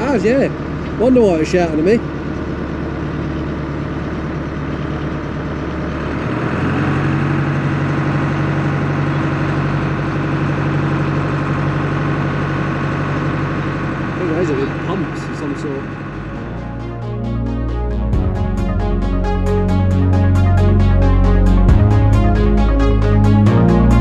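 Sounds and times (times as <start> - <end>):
engines droning: 0.0 - 24.0.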